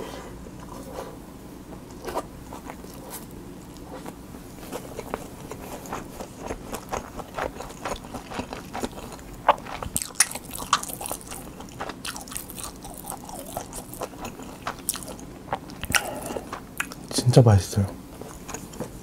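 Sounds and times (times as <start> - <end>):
chewing fried rice: 0.5 - 17.2, 18.0 - 19.0.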